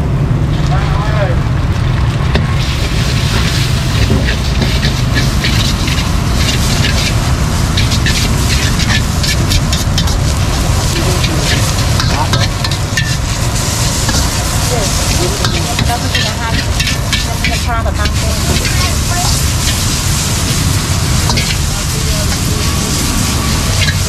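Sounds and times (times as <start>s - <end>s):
low rumble: 0.0s - 24.0s
noodles sizzling: 1.6s - 24.0s
metal ladle scraping wok: 2.3s - 24.0s.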